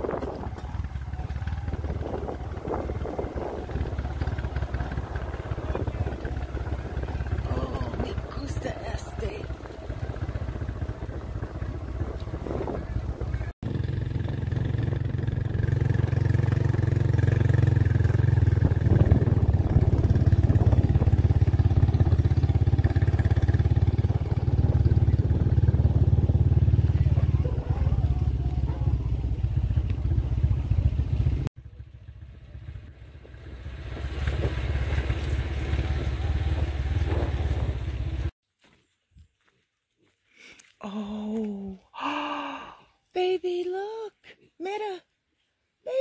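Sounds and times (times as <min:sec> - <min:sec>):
motorcycle engine running: 0:00.0 - 0:38.4.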